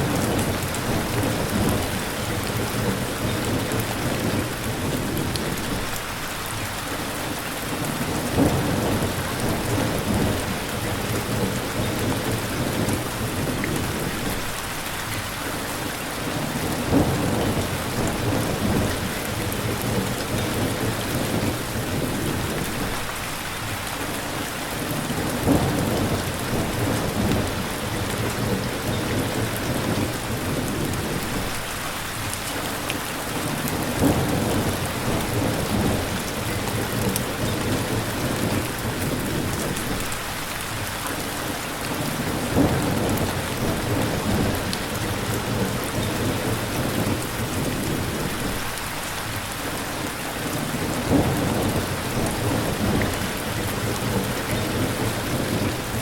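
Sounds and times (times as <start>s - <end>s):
low rumbles of thunder: 0.0s - 5.9s, 7.8s - 14.6s, 16.4s - 23.2s, 24.9s - 31.6s, 33.4s - 40.2s, 42.0s - 48.8s, 50.5s - 56.0s
steady rain falling: 0.0s - 56.0s.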